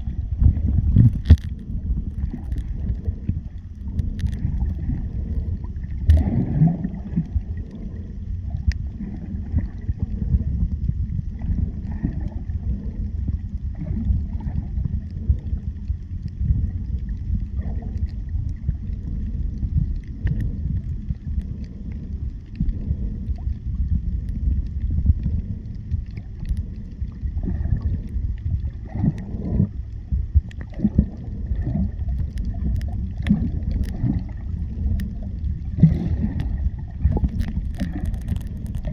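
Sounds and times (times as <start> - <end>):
underwater gurgles: 0.0 - 38.9
underwater low rumble: 0.0 - 38.9.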